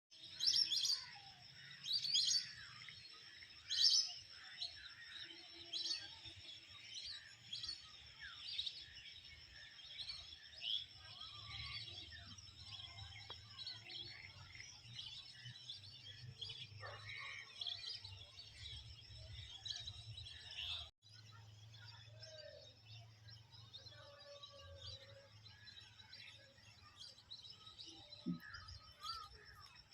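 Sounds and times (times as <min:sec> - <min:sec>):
birds chirping: 0:00.1 - 0:29.9.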